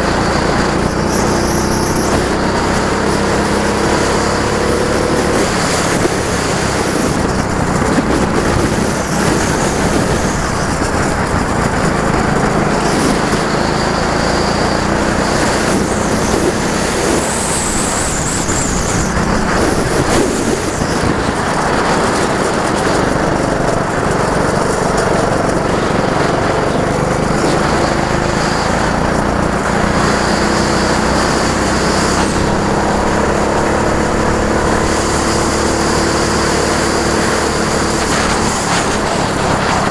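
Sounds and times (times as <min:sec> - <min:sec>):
go-kart engine revving: 0:00.0 - 0:39.9
tyre noise: 0:00.0 - 0:39.9
wind noise: 0:00.0 - 0:39.9.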